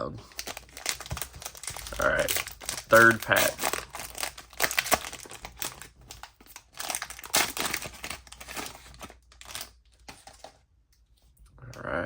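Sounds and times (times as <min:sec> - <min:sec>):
wrapper tearing and crinkling: 0:00.3 - 0:10.6.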